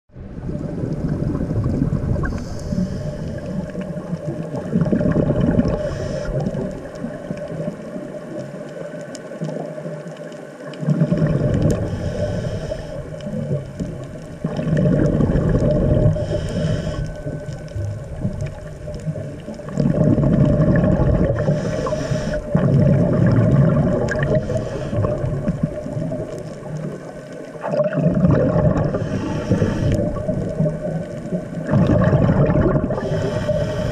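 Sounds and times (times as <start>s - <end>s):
scuba regulator bubbling underwater: 0.2s - 8.8s, 9.4s - 33.9s.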